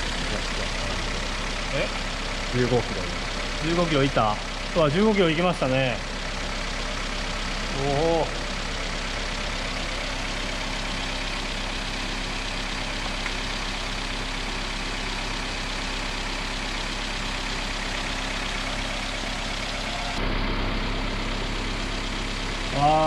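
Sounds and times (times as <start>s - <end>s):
air conditioning compressor running: 0.0s - 23.0s
car engine idling: 0.0s - 23.0s.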